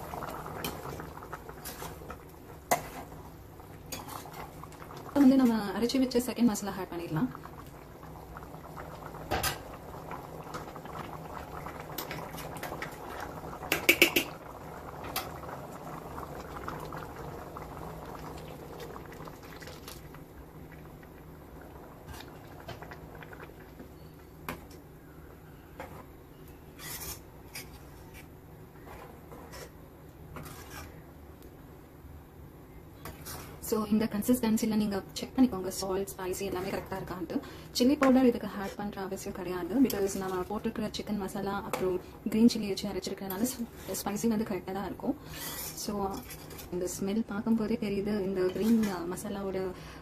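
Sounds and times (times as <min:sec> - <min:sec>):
gravy bubbling in a pan: 0:00.0 - 0:26.1, 0:26.7 - 0:31.1, 0:33.0 - 0:47.0.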